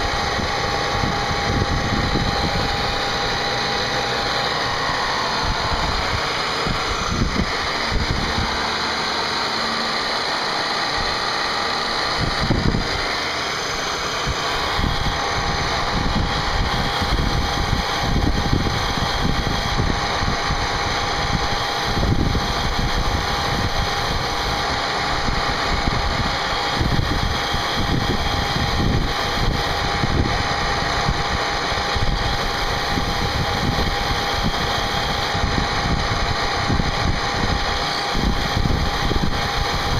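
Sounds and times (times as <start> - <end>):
machine low rumbling: 0.0 - 39.9
steady machine whine: 0.0 - 39.9.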